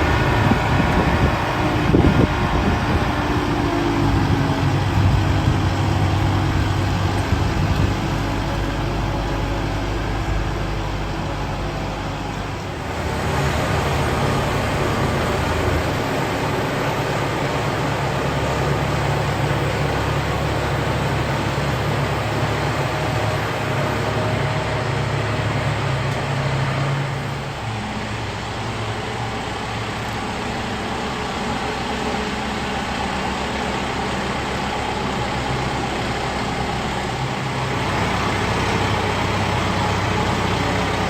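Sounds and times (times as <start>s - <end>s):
broad rushing noise: 0.0s - 41.0s
diesel tractor engine running: 0.0s - 41.0s.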